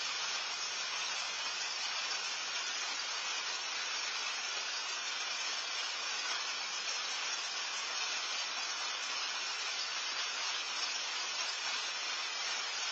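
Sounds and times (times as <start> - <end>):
steady rain falling: 0.0 - 12.9.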